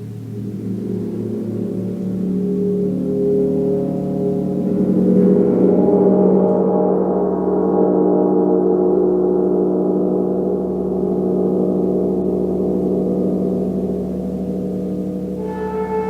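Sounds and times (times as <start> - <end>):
gong ringing: 0.0 - 8.0, 10.0 - 16.0.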